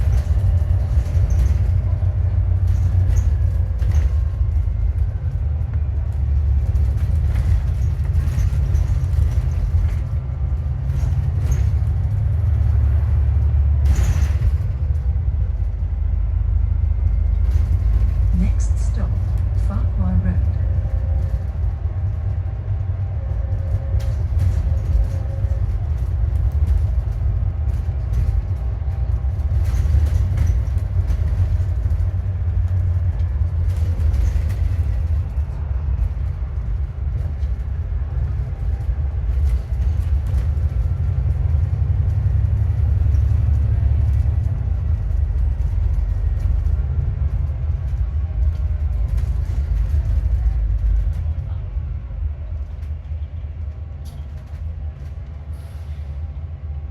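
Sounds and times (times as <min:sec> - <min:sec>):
rattles: 0:00.0 - 0:16.1, 0:17.0 - 0:51.4
bus engine and road rumble: 0:00.0 - 0:56.9.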